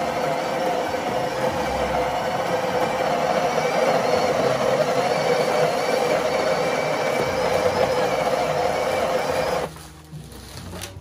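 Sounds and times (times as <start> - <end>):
coffee grinder grinding beans: 0.0 - 10.9.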